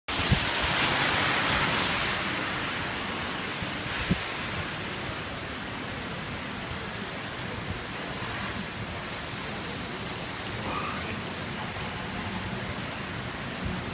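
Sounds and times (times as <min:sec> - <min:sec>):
heavy rain pouring: 0:00.1 - 0:13.9
wind: 0:00.1 - 0:13.9.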